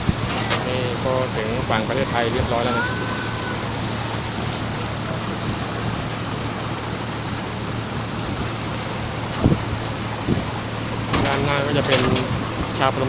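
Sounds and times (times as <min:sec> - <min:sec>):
boat engine running: 0:00.0 - 0:13.0
water rushing: 0:00.0 - 0:13.0
wind noise: 0:00.0 - 0:13.0.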